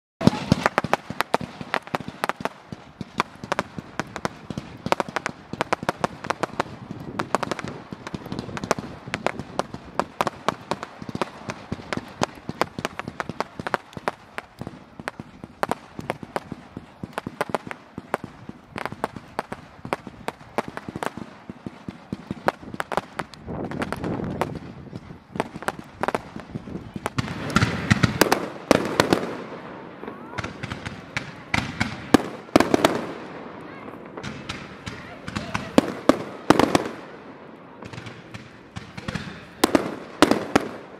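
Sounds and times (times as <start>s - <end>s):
bonfire crackling and popping: 0.2s - 40.9s.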